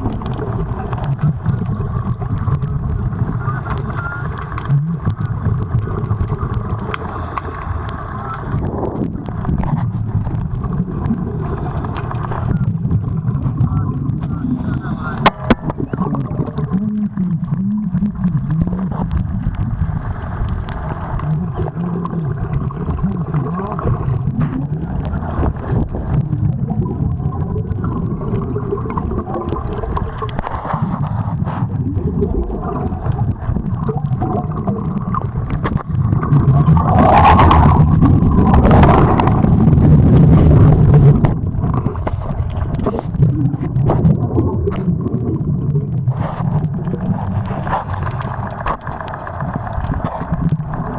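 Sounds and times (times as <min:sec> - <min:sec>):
muffled underwater rumble: 0:00.0 - 0:50.9
underwater rushing: 0:00.0 - 0:50.9.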